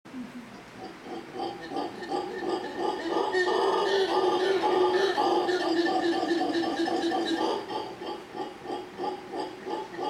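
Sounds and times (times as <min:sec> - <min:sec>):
howler monkeys grunting calls: 0:00.4 - 0:10.0.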